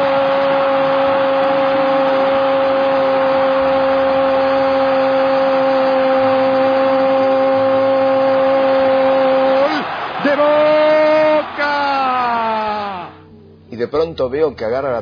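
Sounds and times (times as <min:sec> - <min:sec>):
stadium crowd cheering: 0:00.0 - 0:13.2.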